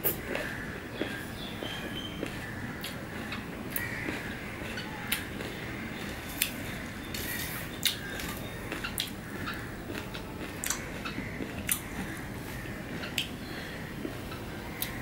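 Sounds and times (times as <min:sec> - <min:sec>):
person chewing juicy fruit: 0:00.0 - 0:15.0.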